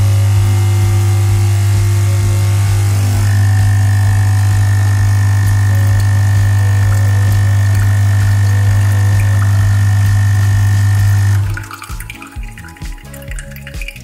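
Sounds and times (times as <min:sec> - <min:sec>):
espresso machine pump buzzing: 0:00.0 - 0:14.0.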